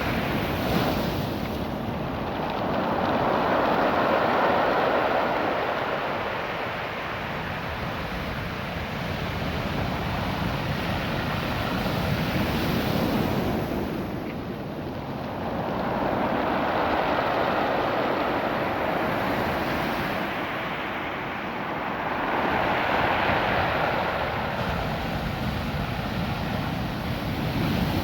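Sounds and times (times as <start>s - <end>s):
ocean surf washing on beach: 0.0s - 28.0s.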